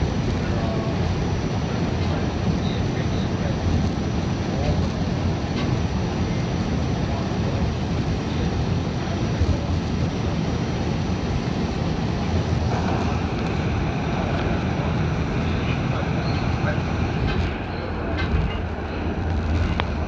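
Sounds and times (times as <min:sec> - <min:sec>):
subway wheels rumbling on rail: 0:00.0 - 0:20.0.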